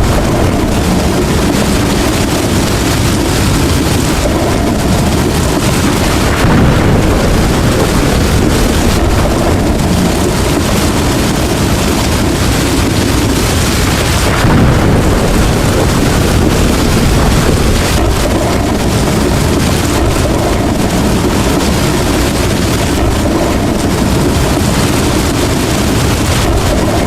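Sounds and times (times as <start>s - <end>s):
heavy rain: 0.0s - 27.0s
thunder rumbling: 0.0s - 27.0s.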